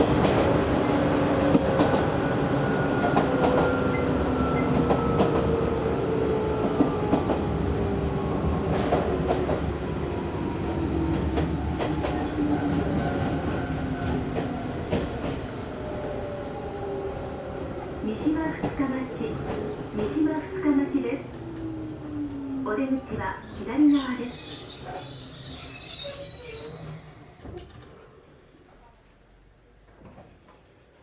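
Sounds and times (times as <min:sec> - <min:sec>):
train wheels rumbling: 0:00.0 - 0:28.0.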